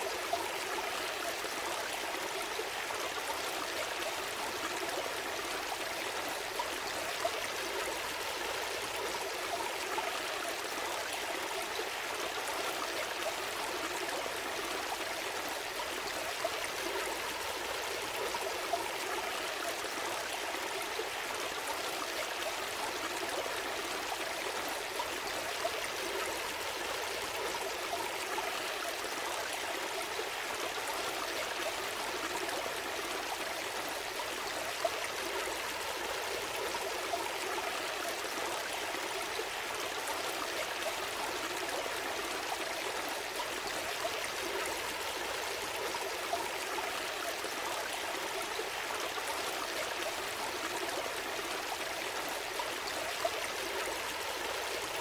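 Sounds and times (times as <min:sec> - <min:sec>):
stream gurgling over stones: 0:00.0 - 0:55.0.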